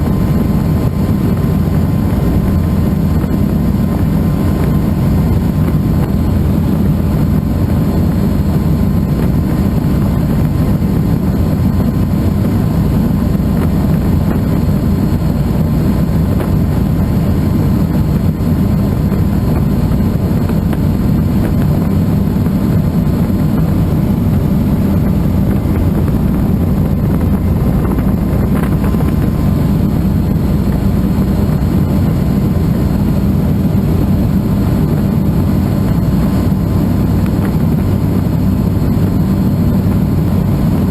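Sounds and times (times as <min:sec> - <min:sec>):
helicopter turbine and rotor drone: 0:00.0 - 0:40.9
thin steady whine: 0:00.0 - 0:40.9.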